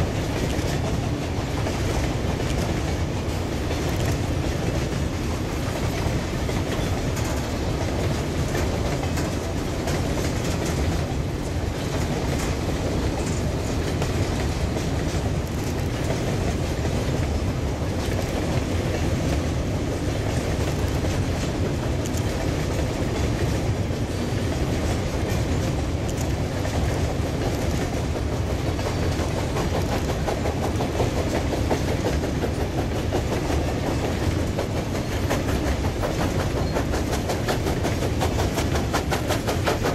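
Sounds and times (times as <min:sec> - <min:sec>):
freight train rumbling: 0:00.0 - 0:39.9
wheels clattering over rail joints: 0:00.0 - 0:39.9.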